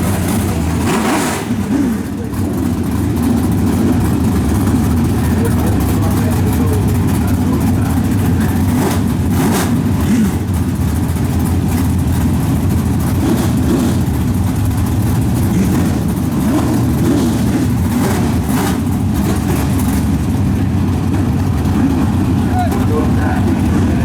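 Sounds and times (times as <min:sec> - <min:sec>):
race car engines rumbling: 0:00.0 - 0:24.0.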